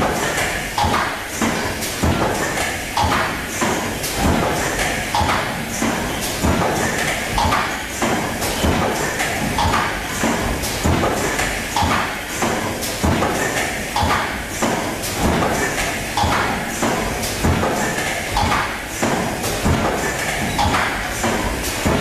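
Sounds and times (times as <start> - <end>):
machine clunk with air hiss: 0.0 - 22.0.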